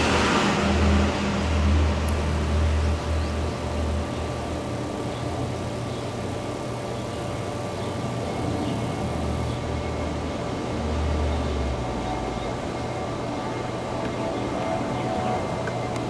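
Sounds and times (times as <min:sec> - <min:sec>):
faint hum tones: 0:00.0 - 0:16.0.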